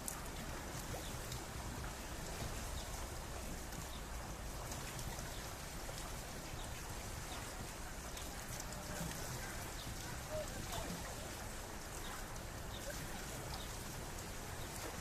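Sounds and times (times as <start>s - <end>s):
water drips and splashes: 0.0s - 15.0s
water rushing: 0.0s - 15.0s.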